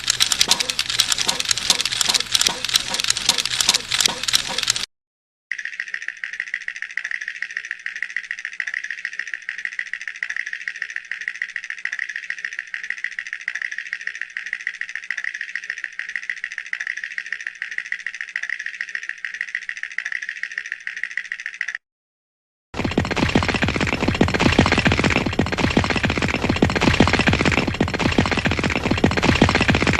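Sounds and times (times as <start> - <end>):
cartoon teeth chattering: 0.0 - 4.9, 5.5 - 21.8, 22.8 - 29.9.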